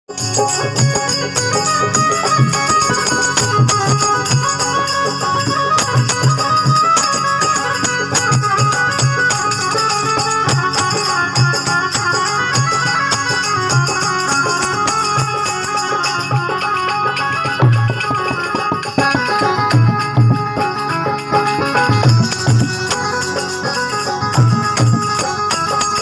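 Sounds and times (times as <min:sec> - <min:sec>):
electronic keyboard folk melody: 0:00.1 - 0:26.0
steady percussion beat: 0:00.1 - 0:26.0.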